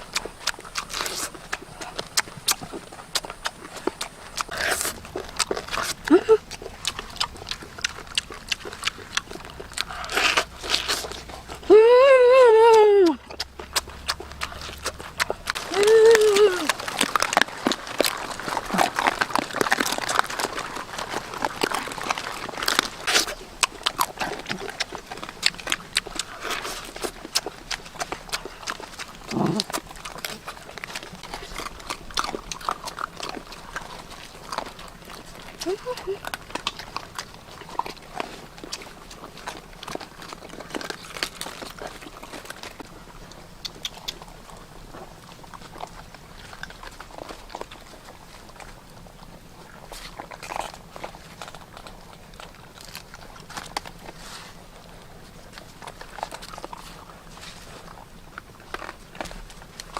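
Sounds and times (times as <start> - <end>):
dog chewing food: 0.0 - 11.8, 13.1 - 59.9.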